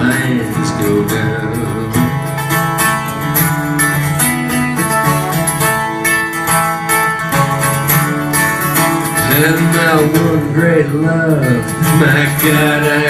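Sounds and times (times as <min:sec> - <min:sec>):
guitar strumming: 0:00.0 - 0:13.0.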